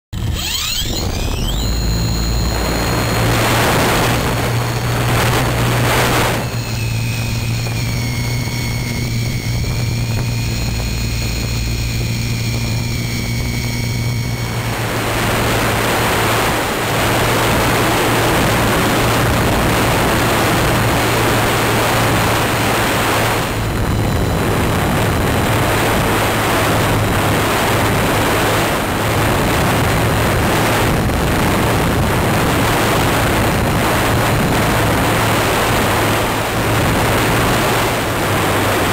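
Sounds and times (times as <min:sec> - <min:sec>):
electric motor and propeller drone: 0:00.1 - 0:38.9
air rushing over microphone: 0:00.9 - 0:38.9.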